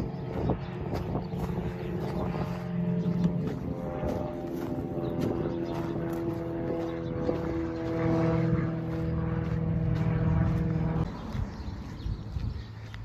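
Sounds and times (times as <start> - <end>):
propeller plane engine overhead: 0.0 - 13.0.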